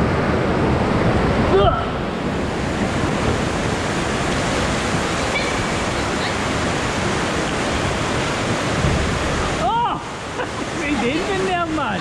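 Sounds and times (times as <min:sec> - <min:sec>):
churning water rushing: 0:00.0 - 0:12.0.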